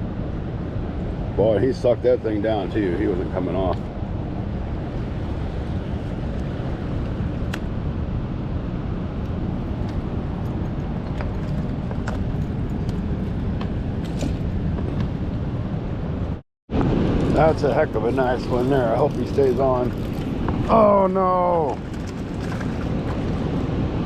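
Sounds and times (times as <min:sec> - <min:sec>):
low rumbling noise: 0:00.0 - 0:24.0.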